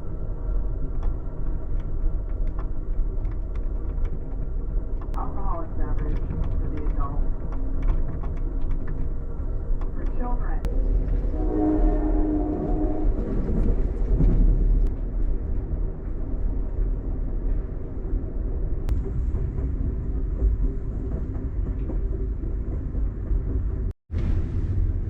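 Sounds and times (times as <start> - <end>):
passenger train rumbling: 0.0 - 25.0.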